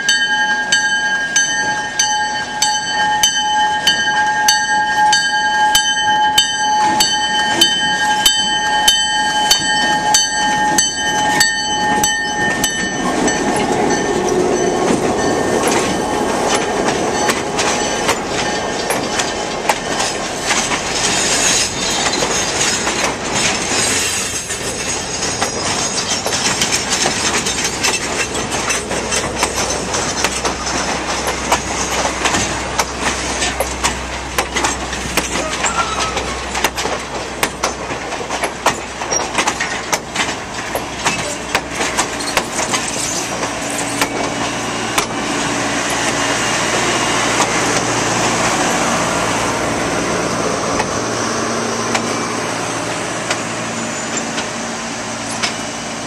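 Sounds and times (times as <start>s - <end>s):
wheels clicking over rail joints: 0.0s - 56.0s.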